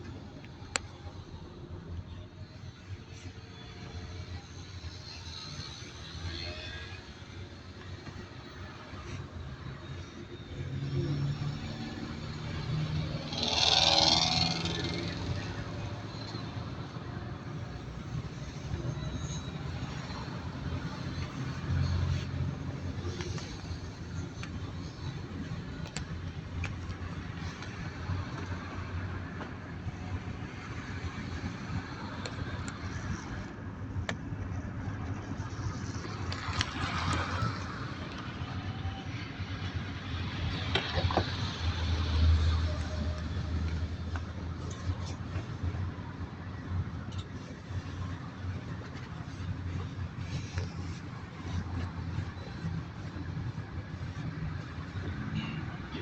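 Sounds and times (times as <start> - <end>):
bus engine rumble: 0.0 - 56.0
road noise: 0.0 - 56.0.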